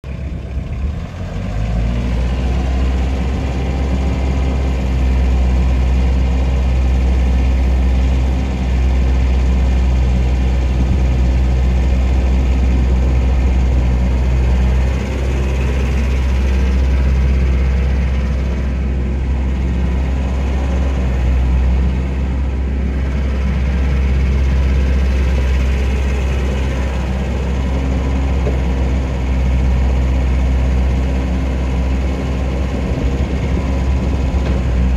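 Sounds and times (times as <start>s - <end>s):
excavator diesel engine droning: 0.0s - 34.9s.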